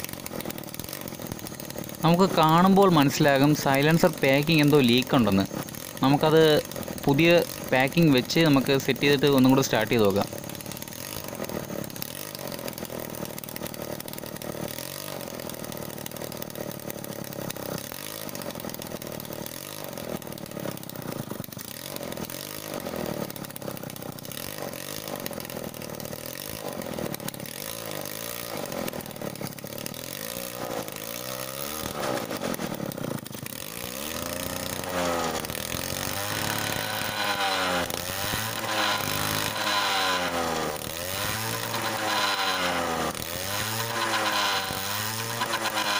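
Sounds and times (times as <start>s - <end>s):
scooter engine revving: 0.0s - 45.9s.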